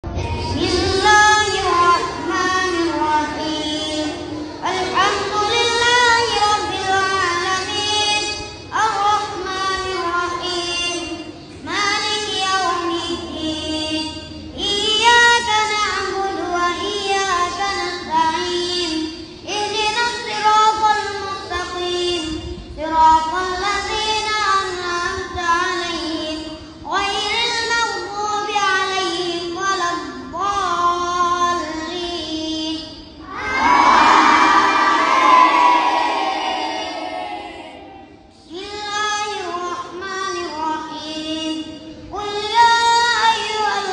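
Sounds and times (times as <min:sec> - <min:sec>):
boy chanting recitation: 0:00.0 - 0:43.9.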